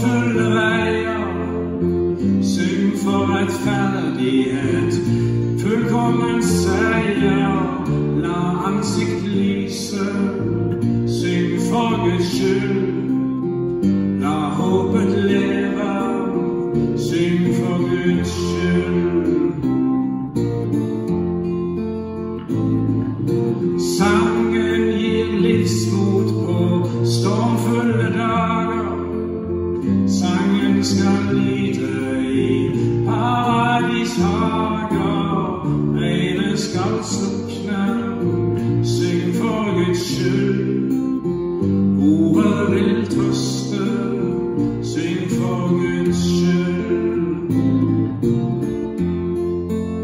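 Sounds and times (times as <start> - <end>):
man singing: 0.0 - 20.4, 23.5 - 48.2
strummed acoustic guitar: 0.0 - 50.0
upright bass: 0.0 - 50.0.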